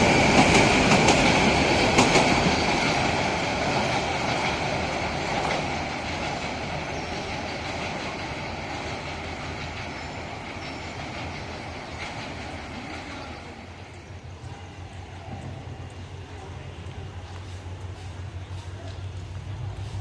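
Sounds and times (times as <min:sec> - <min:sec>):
rail joint clicks: 0:00.0 - 0:20.0
train wheels on rails: 0:00.0 - 0:20.0.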